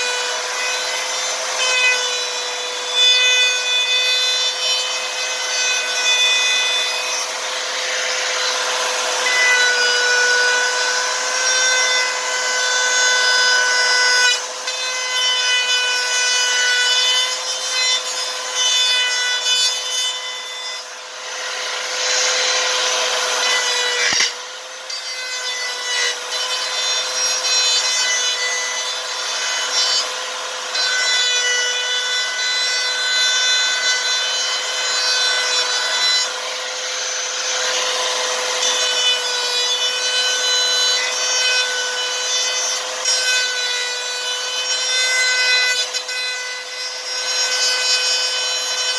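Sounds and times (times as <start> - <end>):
router motor whining: 0.0 - 48.9.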